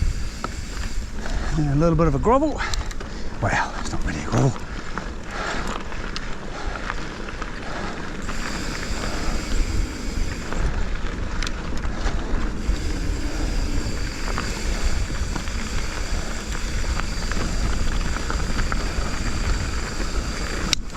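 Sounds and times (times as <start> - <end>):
wind on microphone: 0.0 - 5.8, 7.7 - 20.9
bike tyres and frame rattling: 0.0 - 20.9.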